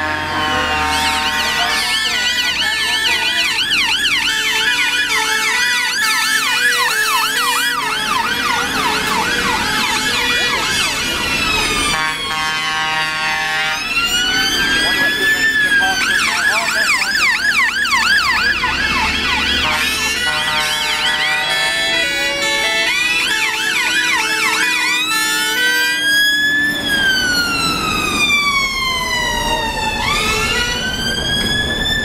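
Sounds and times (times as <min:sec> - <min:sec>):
fire engine siren: 0:00.0 - 0:32.0.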